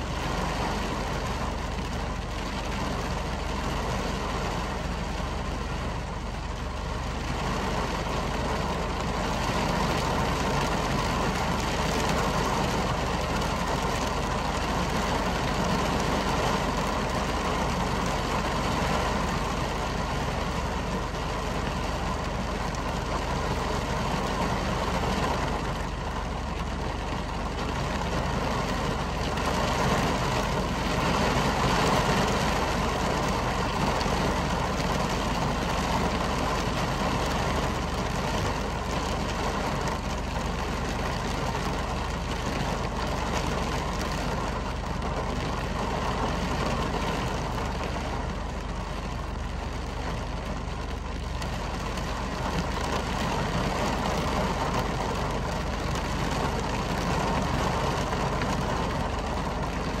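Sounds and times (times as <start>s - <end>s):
heavy rain on window glass: 0.0s - 60.0s.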